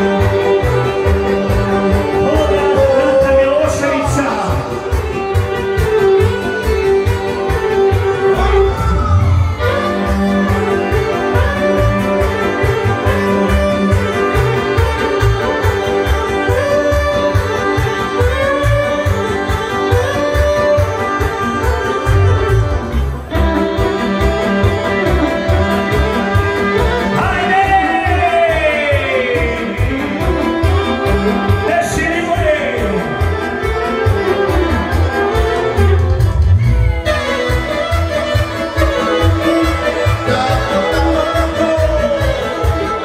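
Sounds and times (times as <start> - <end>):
folk dance music over loudspeakers: 0.0 - 43.0.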